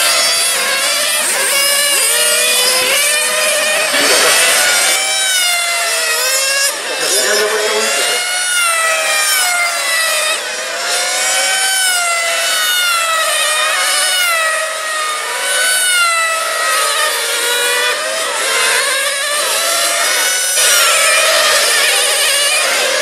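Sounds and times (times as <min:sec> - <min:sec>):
radio-controlled cars revving: 0:00.0 - 0:23.0.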